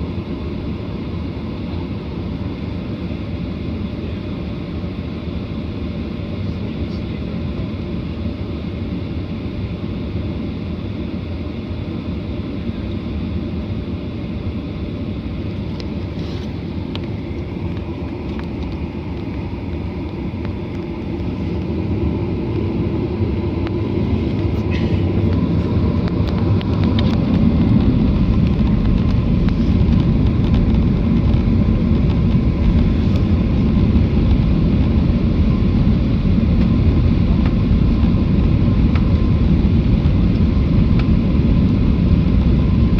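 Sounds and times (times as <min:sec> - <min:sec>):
airliner engine rumble in cabin: 0:00.0 - 0:42.9.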